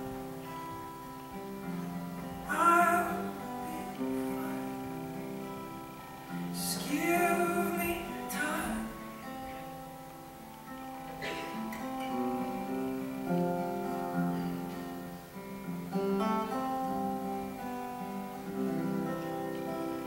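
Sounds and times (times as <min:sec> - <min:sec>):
acoustic guitar picking and strumming: 0:00.0 - 0:20.0.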